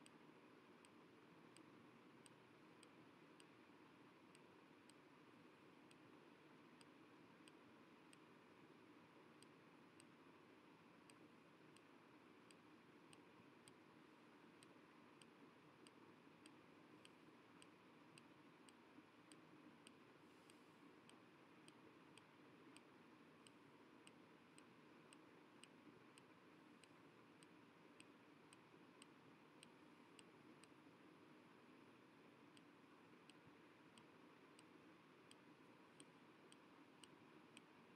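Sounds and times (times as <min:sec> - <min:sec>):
faint regular ticking: 0:00.0 - 0:37.9
faint room hiss: 0:00.0 - 0:37.9.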